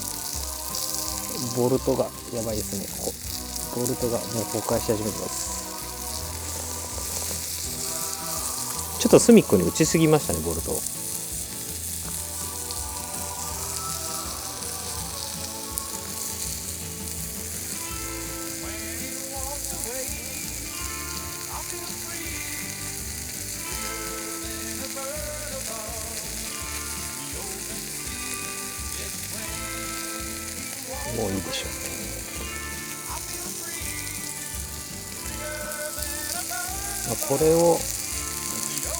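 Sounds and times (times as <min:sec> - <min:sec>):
chicken sizzling in oil: 0:00.0 - 0:38.9.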